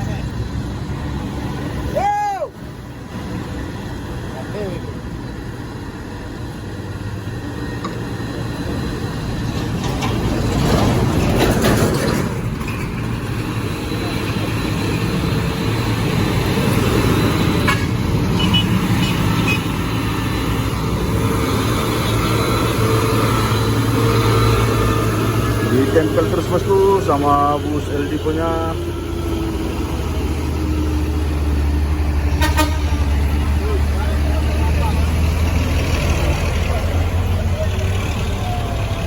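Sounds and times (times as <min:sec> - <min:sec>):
diesel trucks labouring uphill: 0:00.0 - 0:39.0.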